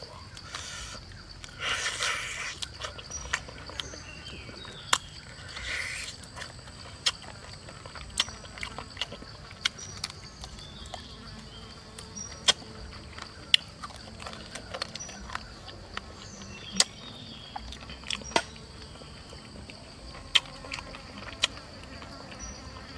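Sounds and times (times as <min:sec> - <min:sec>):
insect chirps: 0:00.0 - 0:22.9
insects droning: 0:00.0 - 0:22.9
chewing and mouth smacks: 0:00.4 - 0:22.4.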